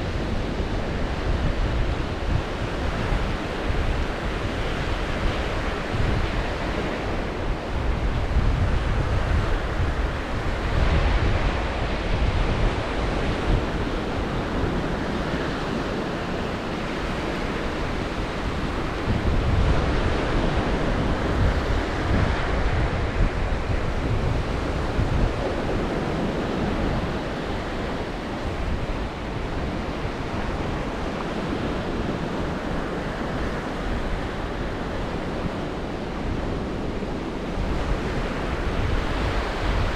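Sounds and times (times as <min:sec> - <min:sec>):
surf breaking on shore: 0:00.0 - 0:39.9
wind buffeting microphone: 0:00.0 - 0:39.9.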